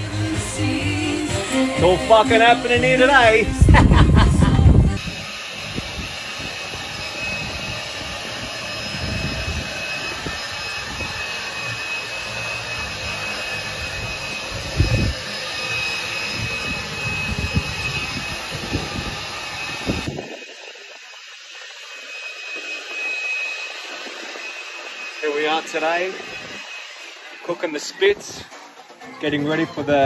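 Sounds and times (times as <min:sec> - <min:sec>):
hiss with high whine: 0:00.0 - 0:28.8.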